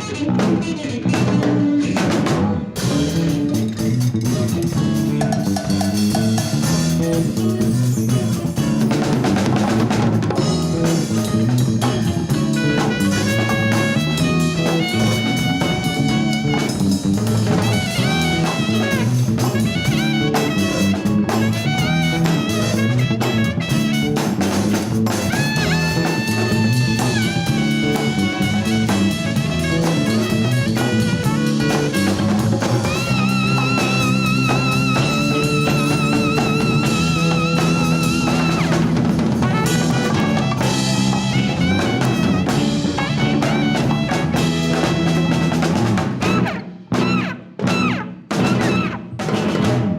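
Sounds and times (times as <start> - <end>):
drum kit fills: 0.0 - 49.9
guitar and bass: 0.0 - 49.9
jazzy band instrumental: 0.0 - 49.9.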